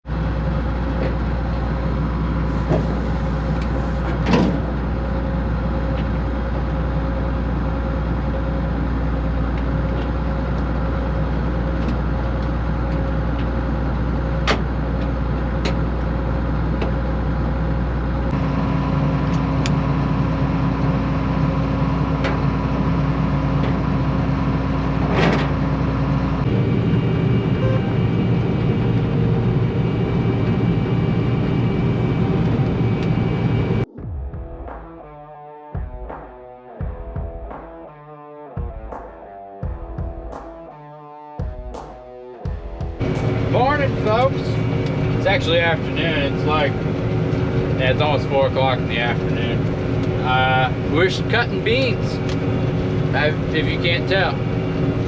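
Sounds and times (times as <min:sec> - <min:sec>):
heavy vehicle engine running: 0:00.0 - 0:33.9, 0:42.5 - 0:55.0.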